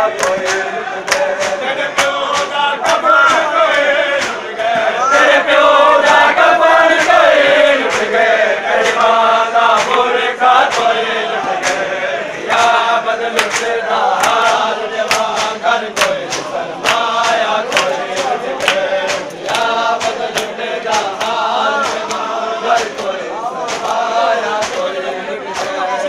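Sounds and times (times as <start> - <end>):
hands slapping on chests: 0.0 - 26.0
men chanting a lament: 0.0 - 26.0.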